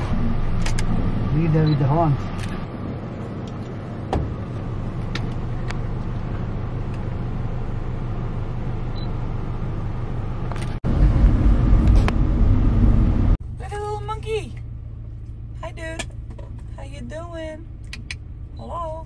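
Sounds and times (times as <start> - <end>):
rough engine rumble: 0.0 - 19.0.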